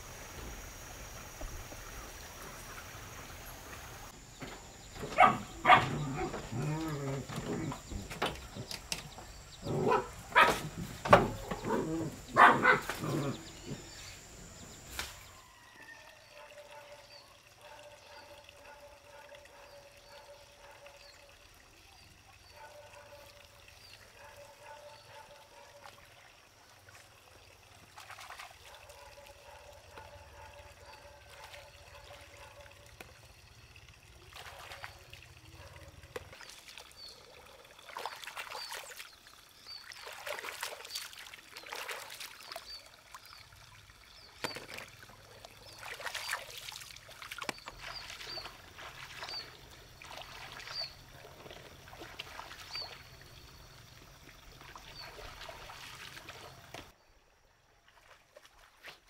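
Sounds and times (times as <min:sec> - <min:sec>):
water sloshing and splashing: 0:00.0 - 0:15.6, 0:16.2 - 0:57.0, 0:57.7 - 0:59.0.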